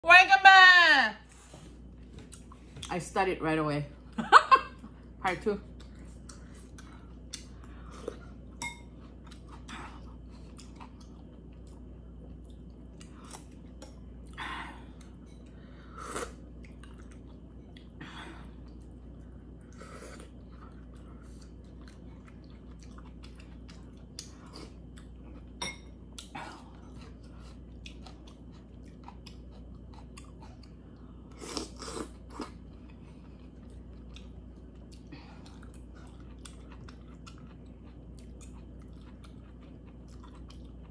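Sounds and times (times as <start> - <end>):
chewing soft food: 4.8 - 40.9.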